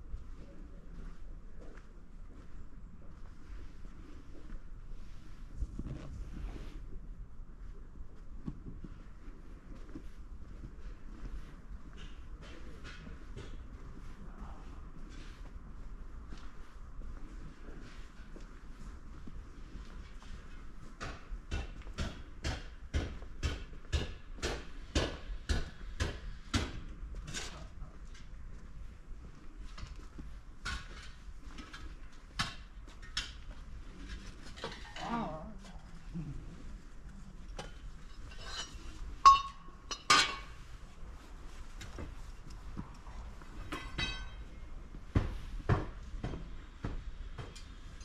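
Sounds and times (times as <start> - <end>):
footsteps walking: 0.0 - 35.0, 35.6 - 48.0.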